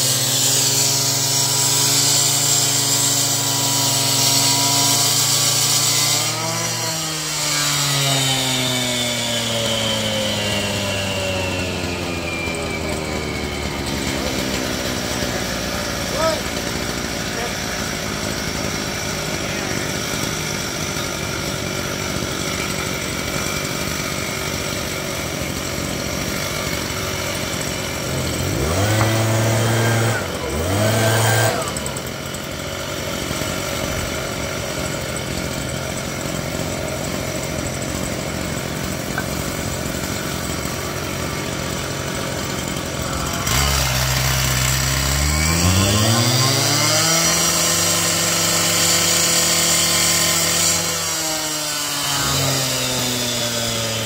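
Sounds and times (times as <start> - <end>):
cut-off saw cutting concrete: 0.0 - 54.0.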